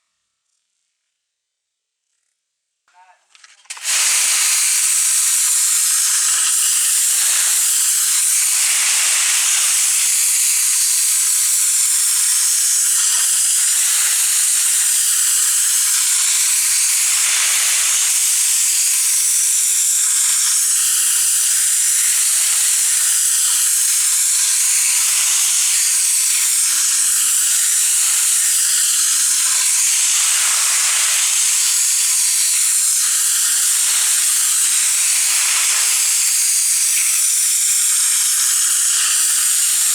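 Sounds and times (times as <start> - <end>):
pressure washer spraying: 3.7 - 39.9.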